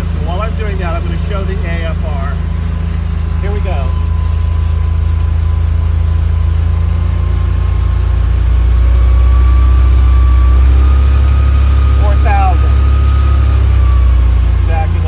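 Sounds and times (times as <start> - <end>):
car engine at raised revs: 0.0 - 15.0.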